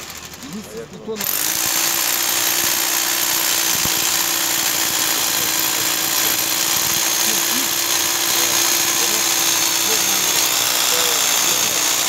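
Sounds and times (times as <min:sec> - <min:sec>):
rotary hammer drill boring concrete: 0:00.0 - 0:12.0.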